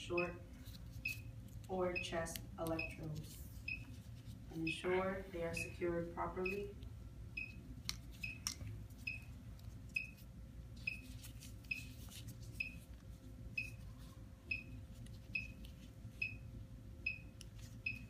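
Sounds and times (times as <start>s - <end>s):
electrocardiograph beeping: 0.0s - 4.0s, 4.6s - 8.4s, 9.0s - 12.9s, 13.5s - 13.9s, 14.5s - 18.0s.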